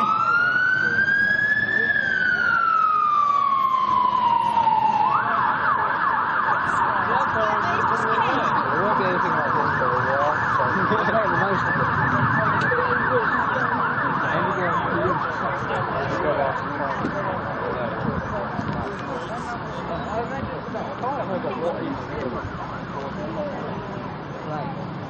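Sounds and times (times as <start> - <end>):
emergency vehicle siren: 0.0 - 25.0.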